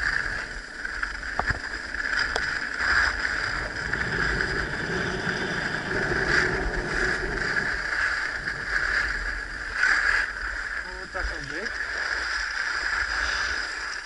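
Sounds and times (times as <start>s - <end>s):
skis carving on snow: 0.0s - 14.0s
wind rumbling on microphone: 0.0s - 14.0s.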